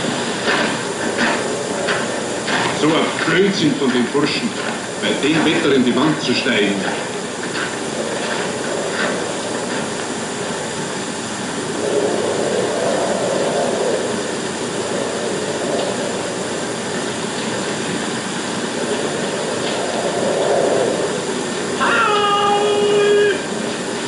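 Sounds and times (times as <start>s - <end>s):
film soundtrack hiss: 0.0s - 24.0s
storm wind rushing: 0.0s - 24.0s.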